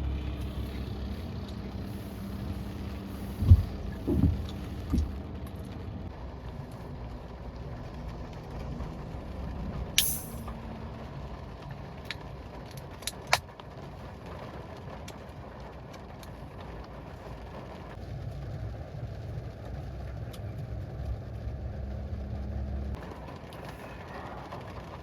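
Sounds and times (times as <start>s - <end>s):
rain on a car: 0.0s - 25.0s.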